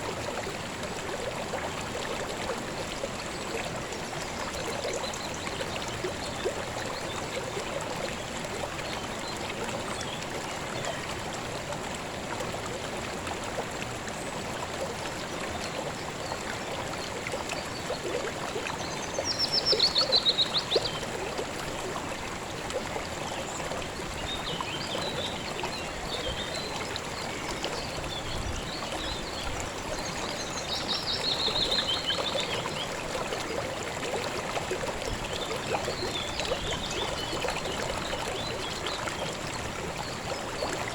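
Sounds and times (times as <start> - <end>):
shallow stream trickling: 0.0 - 40.9.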